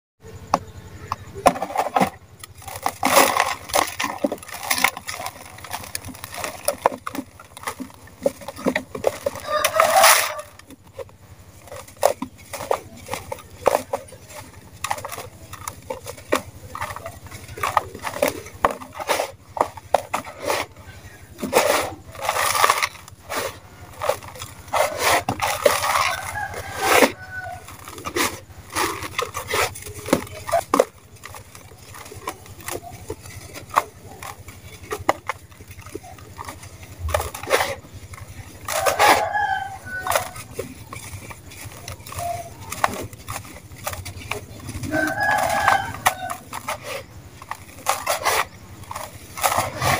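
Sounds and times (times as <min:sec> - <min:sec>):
sand-cement chunks crunching: 0:01.3 - 0:49.9.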